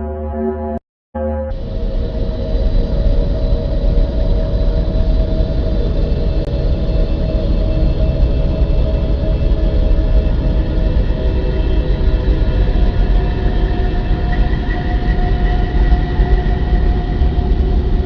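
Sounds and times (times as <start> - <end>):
faint hum tones: 1.5 - 18.0
low rumble: 1.5 - 18.0.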